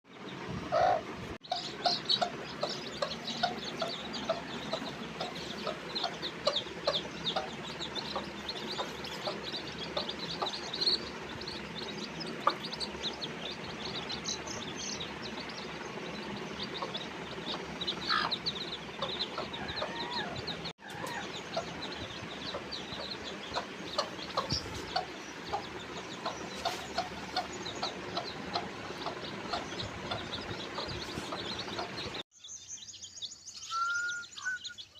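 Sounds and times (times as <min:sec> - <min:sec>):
chicks peeping: 0:00.1 - 0:34.9
hen clucking: 0:00.6 - 0:32.2.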